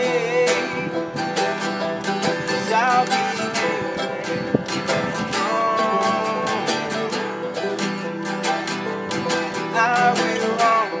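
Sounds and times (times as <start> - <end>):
acoustic guitar: 0.0 - 11.0
banjo: 0.0 - 11.0
mandolin: 0.0 - 11.0.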